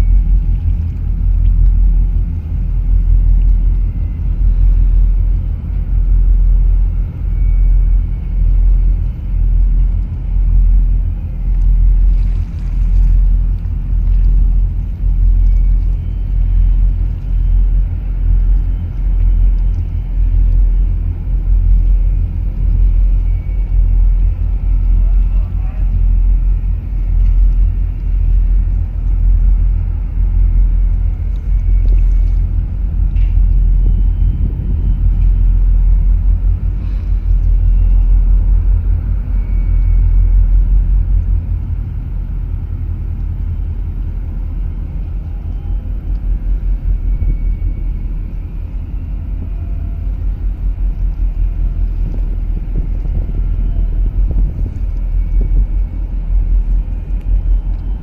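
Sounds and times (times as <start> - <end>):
wind buffeting the microphone: 0.0 - 58.0.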